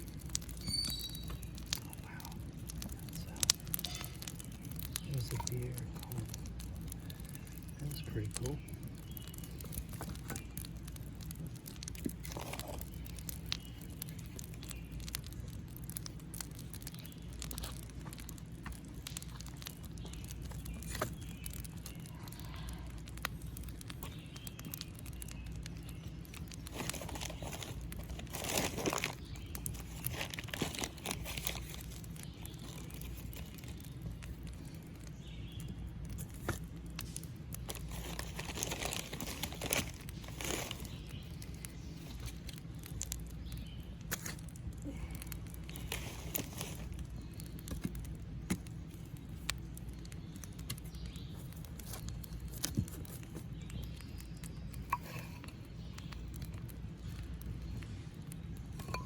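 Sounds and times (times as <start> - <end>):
kindling rustling and crinkling: 0.0 - 14.8, 16.5 - 35.1, 36.0 - 49.6, 50.6 - 57.5, 58.6 - 59.0
sharp snaps and crackles: 0.0 - 59.0.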